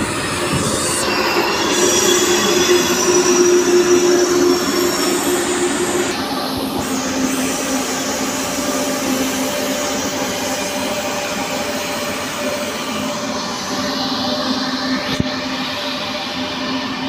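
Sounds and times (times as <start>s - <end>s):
low hum: 0.0s - 14.2s
train rail rumble: 0.0s - 14.9s.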